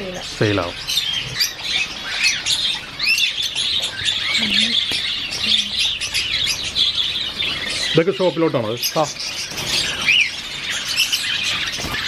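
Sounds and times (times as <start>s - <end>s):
parrots chattering and squawking: 0.0s - 12.0s.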